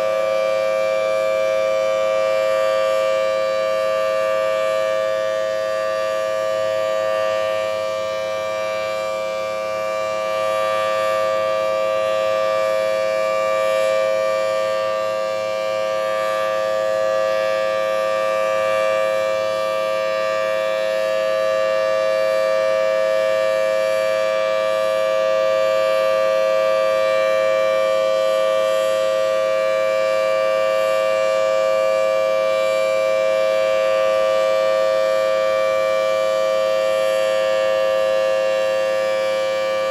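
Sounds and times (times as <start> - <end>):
siren steady tone: 0.0 - 39.9.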